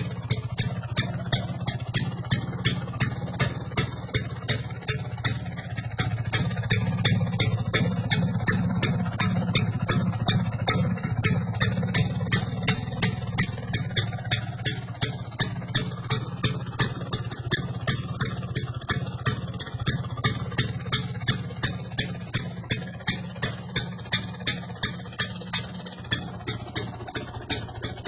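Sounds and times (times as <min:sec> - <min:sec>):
scooter engine idling: 0:00.0 - 0:28.0.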